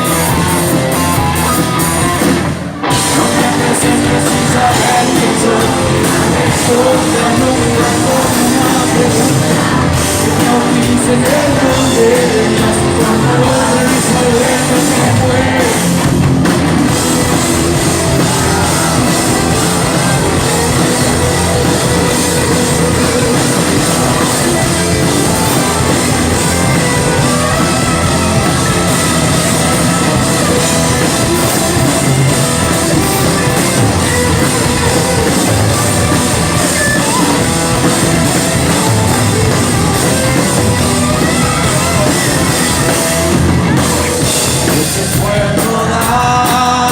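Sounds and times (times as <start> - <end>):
rock band playing: 0.0 - 46.9
person singing: 2.9 - 16.2, 17.2 - 46.9.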